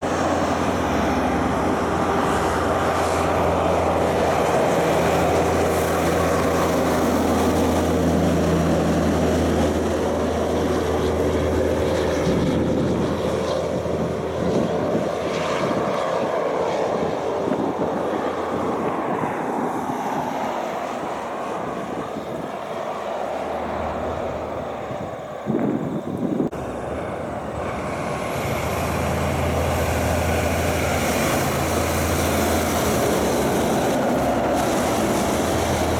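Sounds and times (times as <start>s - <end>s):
diesel truck engine passing: 0.0s - 35.9s.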